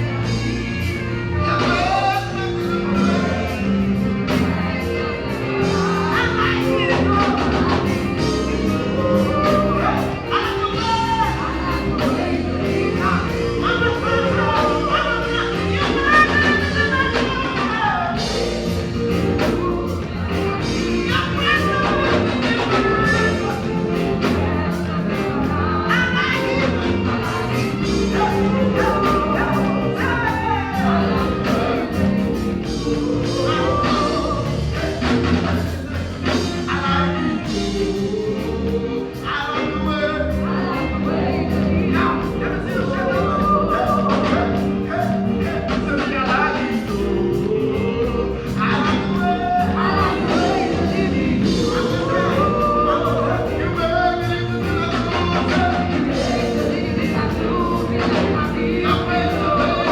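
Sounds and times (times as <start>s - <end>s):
gospel singing over a band: 0.0s - 59.9s.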